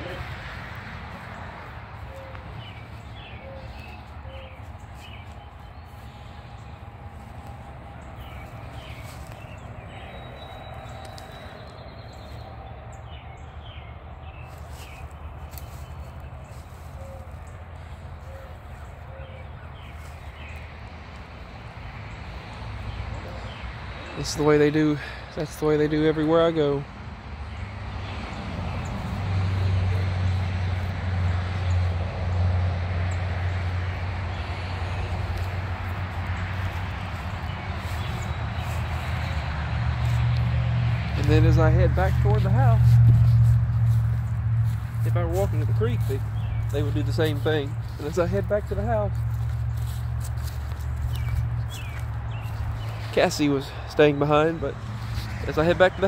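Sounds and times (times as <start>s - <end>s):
footsteps crunching through dry leaves: 0.0s - 25.2s, 27.5s - 56.0s
birds chirping: 0.0s - 56.0s.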